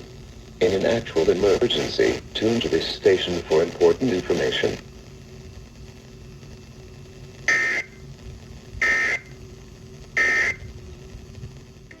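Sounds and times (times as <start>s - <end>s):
buzzy digital data tones: 0.4s - 11.2s.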